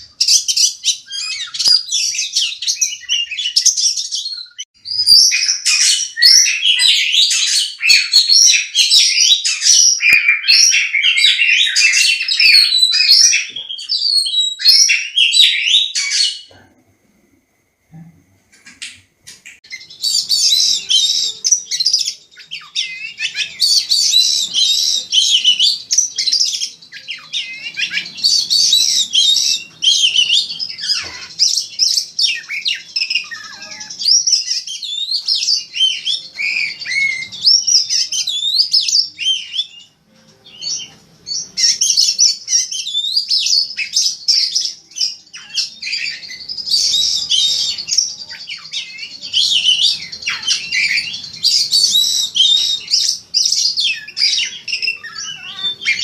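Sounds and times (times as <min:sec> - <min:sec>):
magpie-robin singing: 0:00.0 - 0:16.6, 0:18.7 - 0:56.0.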